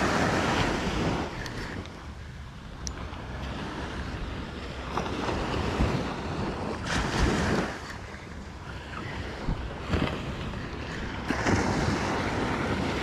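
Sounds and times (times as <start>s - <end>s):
small waves breaking on a beach: 0.0s - 13.0s
wind buffeting the microphone: 0.0s - 13.0s.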